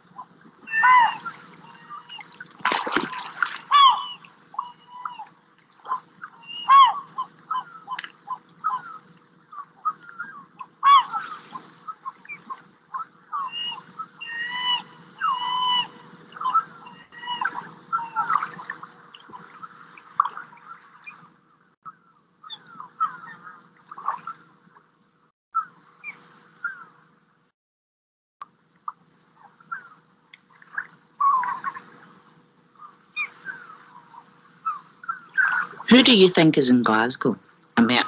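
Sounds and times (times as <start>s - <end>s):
birds calling and chirping: 0.0s - 24.8s, 25.6s - 27.0s, 28.8s - 37.1s
faint steady hum: 0.0s - 27.5s, 28.4s - 38.0s.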